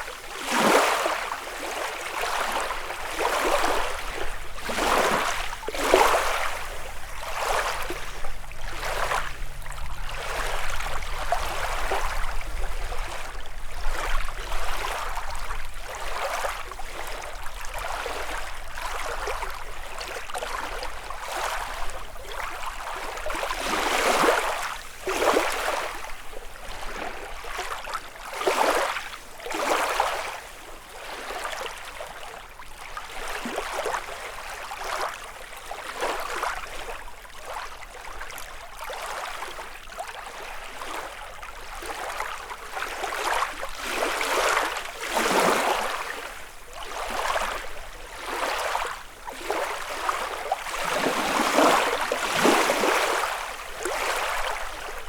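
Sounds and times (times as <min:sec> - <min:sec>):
lake waves lapping on shore: 0:00.0 - 0:55.0.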